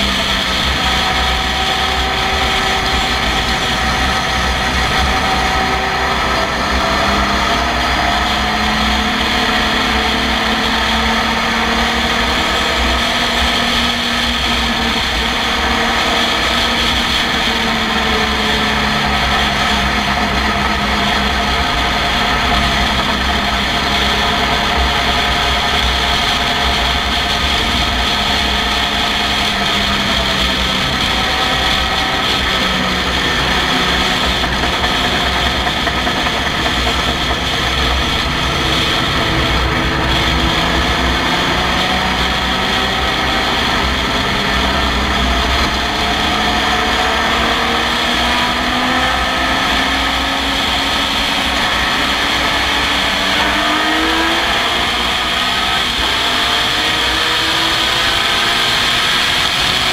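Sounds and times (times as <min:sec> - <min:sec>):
racing car engine accelerating: 0:00.0 - 0:59.9.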